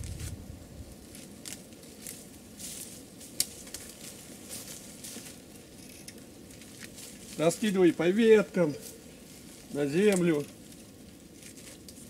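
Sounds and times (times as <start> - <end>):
feathered skin crackling and rustling: 0.0 - 12.0.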